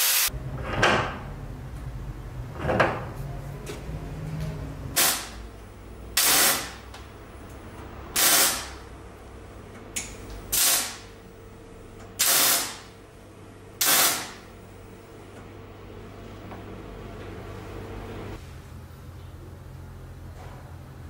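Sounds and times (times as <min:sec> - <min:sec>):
steady low hum: 0:00.3 - 0:21.0.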